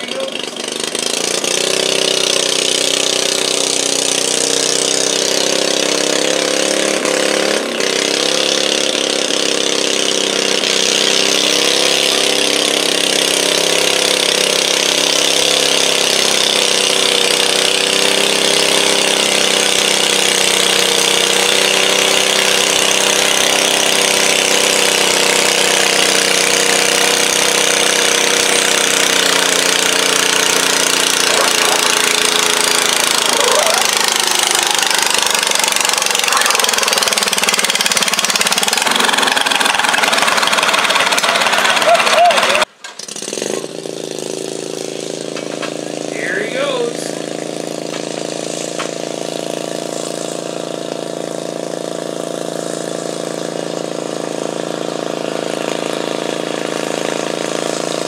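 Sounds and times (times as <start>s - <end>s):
garden tractor engine under load: 0.0s - 58.0s.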